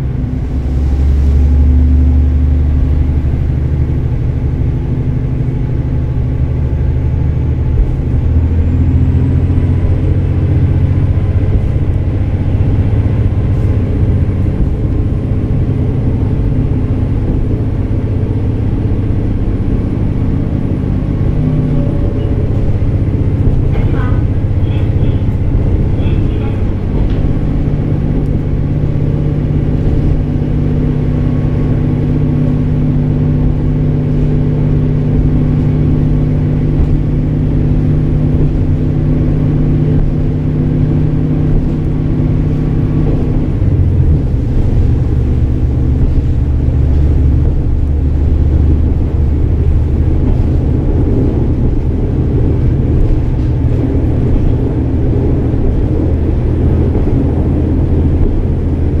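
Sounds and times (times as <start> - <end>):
diesel engine droning: 0.0 - 59.0
train wheels rumbling on rail: 0.0 - 59.0.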